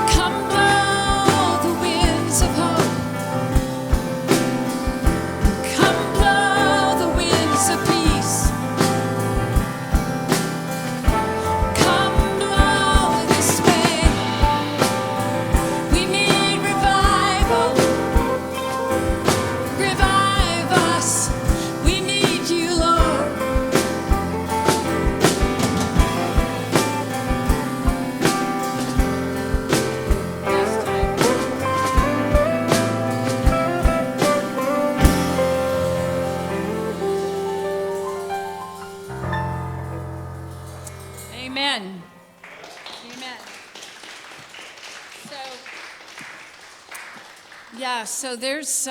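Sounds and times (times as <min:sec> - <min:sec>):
drum hits: 0:00.0 - 0:41.8
guitar chords: 0:00.0 - 0:42.4.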